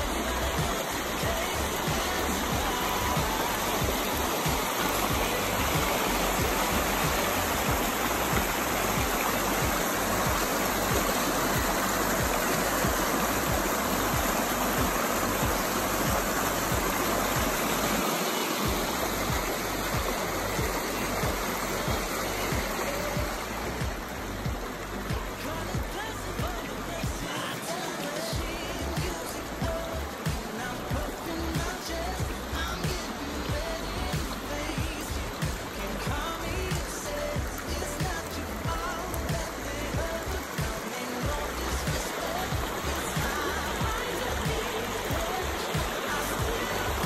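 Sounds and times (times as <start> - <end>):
creek rushing over rocks: 0.0 - 47.0.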